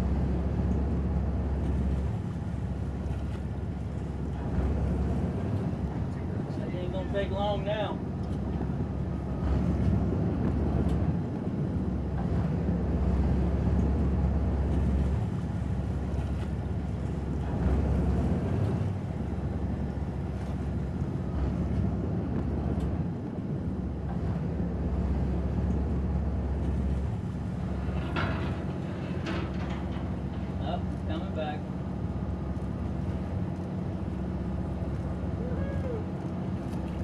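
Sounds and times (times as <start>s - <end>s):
boat motor rumbling: 0.0s - 37.0s
water noise: 0.0s - 37.0s
wind buffeting microphone: 0.0s - 37.0s.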